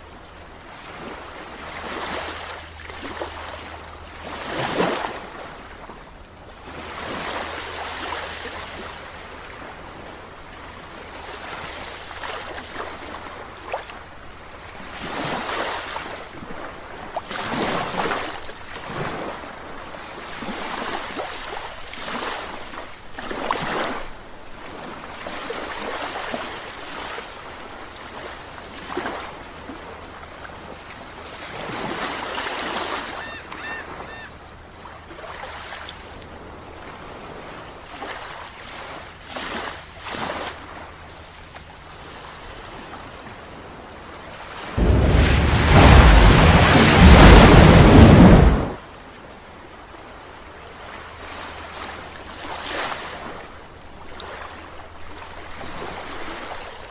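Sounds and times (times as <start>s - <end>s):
sea waves breaking on beach: 0.0s - 56.9s.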